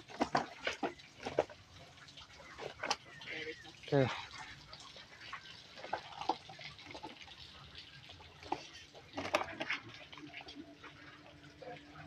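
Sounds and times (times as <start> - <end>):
water splashes: 0.0 - 12.0.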